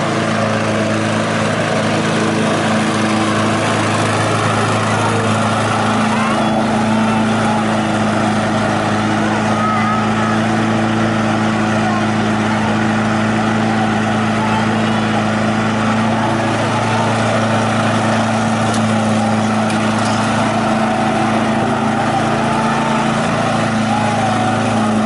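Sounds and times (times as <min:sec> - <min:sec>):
lawn mower engine cutting grass: 0:00.0 - 0:25.0.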